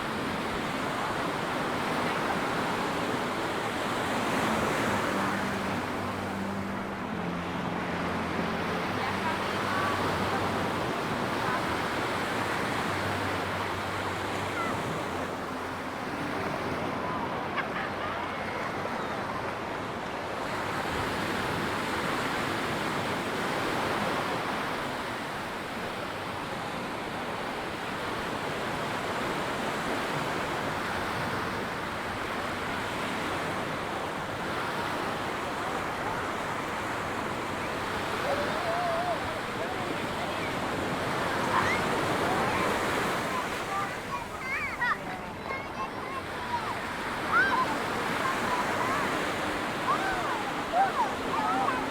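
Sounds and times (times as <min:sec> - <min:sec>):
surf washing onto beach: 0:00.0 - 0:51.9.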